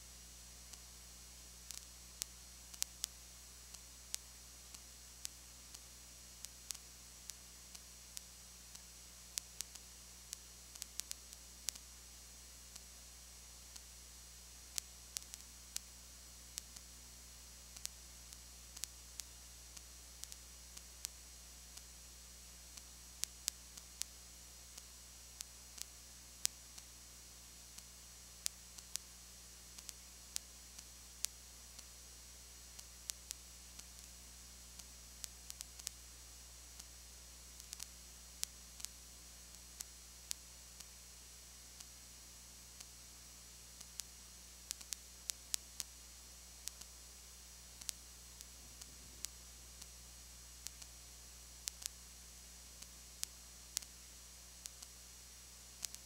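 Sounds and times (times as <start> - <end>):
low electrical hum and hiss: 0.0 - 56.0
recording crackle clicks: 0.1 - 56.0.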